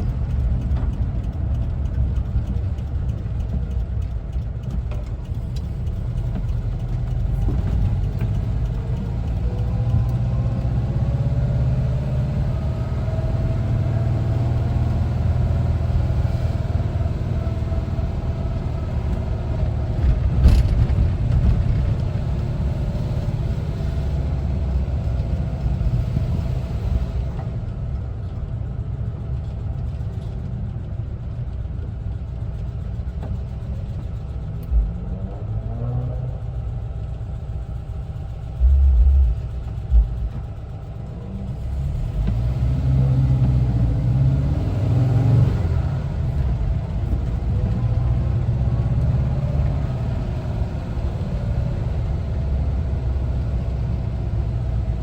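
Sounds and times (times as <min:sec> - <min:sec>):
car engine running: 0:00.0 - 0:55.0
low road rumble: 0:00.0 - 0:55.0.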